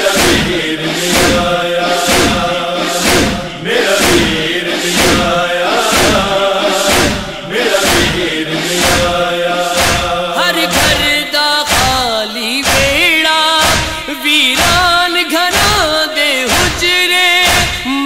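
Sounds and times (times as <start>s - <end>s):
steady beat: 0.0s - 17.9s
male chorus chanting drone: 0.0s - 18.0s.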